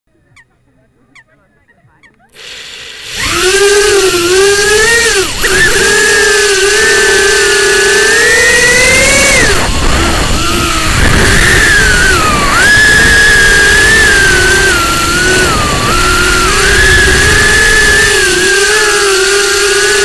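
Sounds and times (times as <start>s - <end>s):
quadcopter motor whine: 2.3s - 20.0s.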